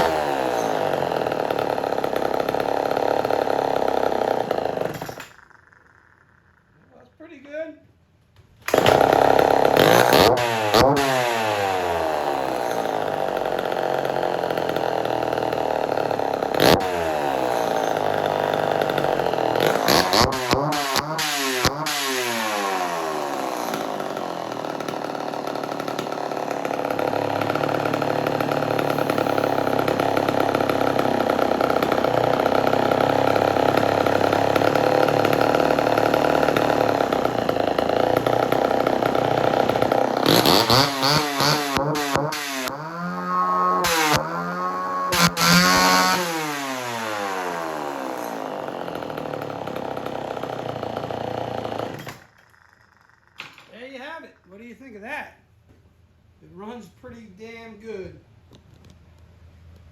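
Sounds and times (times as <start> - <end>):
chainsaw engine revving: 0.0 - 6.9, 8.6 - 55.0.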